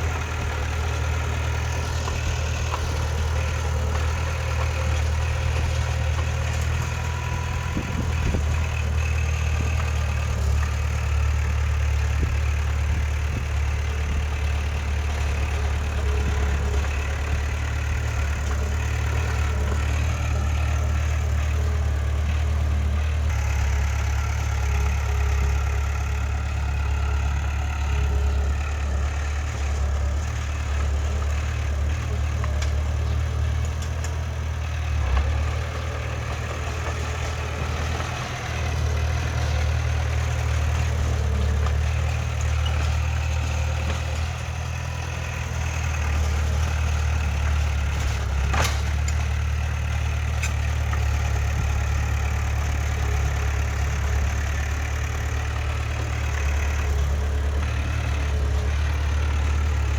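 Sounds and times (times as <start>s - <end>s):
heavy diesel engine humming: 0.0s - 59.9s.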